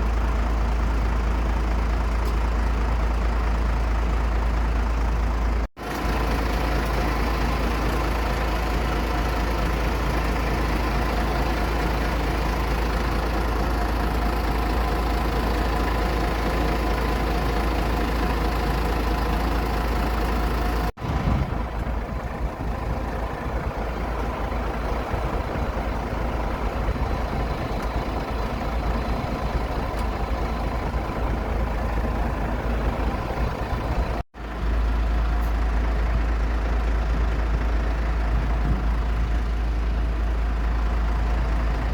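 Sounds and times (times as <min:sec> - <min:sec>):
aircraft engine running: 0:00.0 - 0:41.9.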